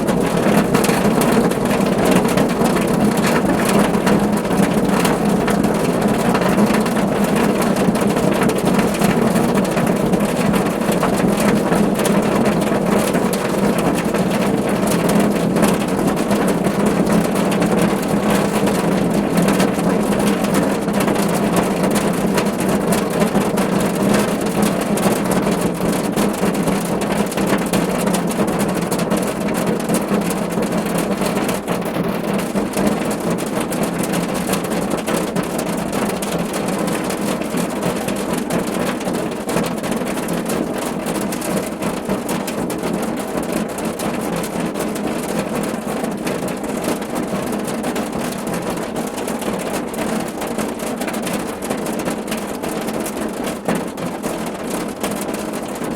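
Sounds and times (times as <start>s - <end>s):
rain drumming on a car roof: 0.0s - 55.9s.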